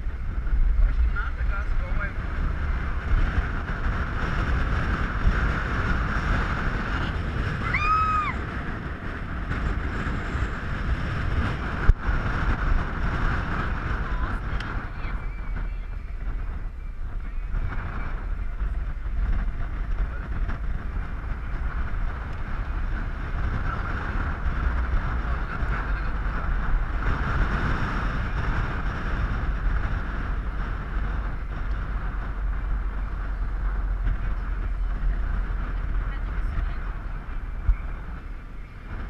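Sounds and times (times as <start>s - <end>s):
vehicle road and engine noise: 0.0s - 39.0s
wind on microphone: 0.0s - 39.0s.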